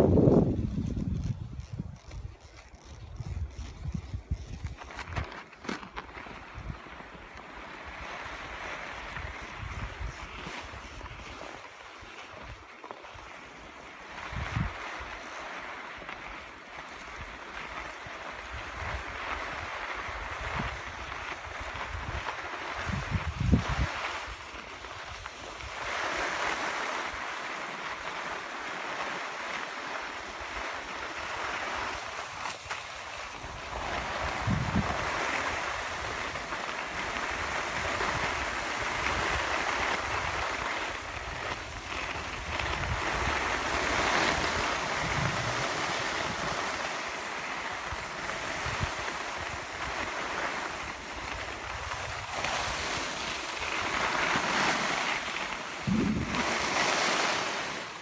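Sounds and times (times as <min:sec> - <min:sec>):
wind on microphone: 0:00.0 - 0:12.6, 0:14.1 - 0:15.3, 0:17.0 - 0:27.2, 0:30.2 - 0:58.0
skis sliding over packed snow: 0:00.0 - 0:58.0.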